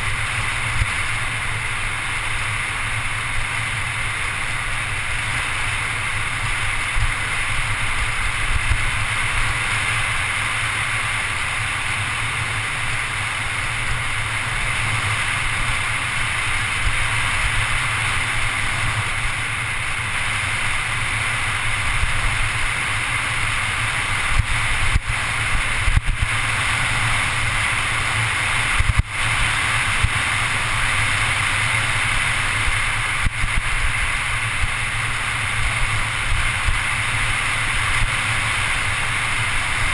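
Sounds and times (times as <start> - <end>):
bike tyre rumble on asphalt: 0.0 - 39.9
wind rushing on microphone: 0.0 - 39.9.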